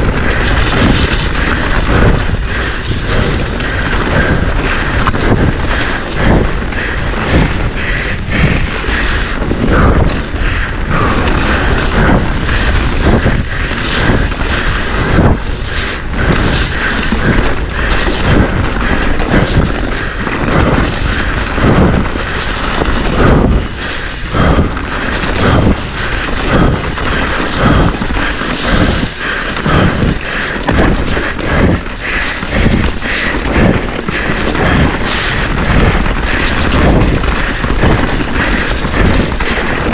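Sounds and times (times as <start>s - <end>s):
bike knocking and clattering: 0.0s - 39.9s
bike tyres rumbling on dirt: 0.0s - 39.9s.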